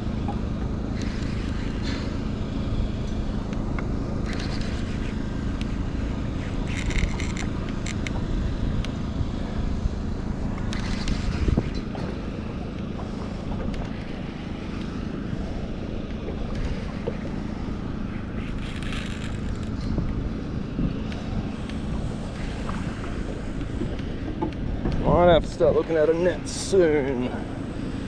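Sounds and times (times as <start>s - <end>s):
water lapping around boat: 0.0s - 28.0s
wind rumbling on microphone: 0.0s - 28.0s.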